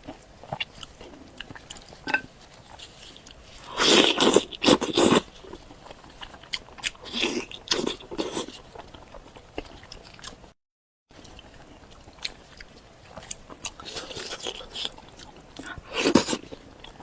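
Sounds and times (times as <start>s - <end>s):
quiet chewing and mouth clicks: 0.0s - 17.0s.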